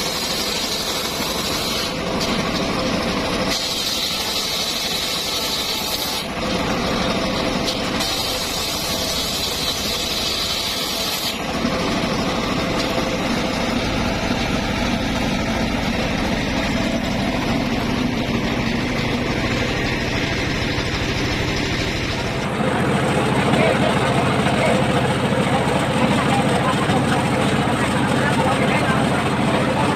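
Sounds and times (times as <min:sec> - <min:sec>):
sawmill machine hum: 0:00.0 - 0:29.9.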